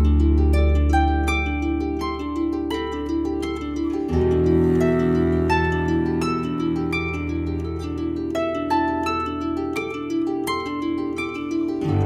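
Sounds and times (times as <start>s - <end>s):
harp melody: 0.0s - 12.0s.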